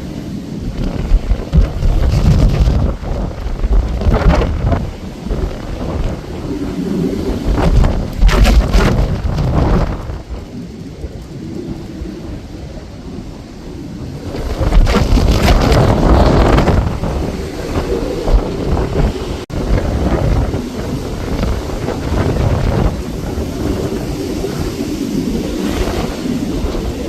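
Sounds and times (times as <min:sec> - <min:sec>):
gusty wind buffeting microphone: 0:00.0 - 0:27.0.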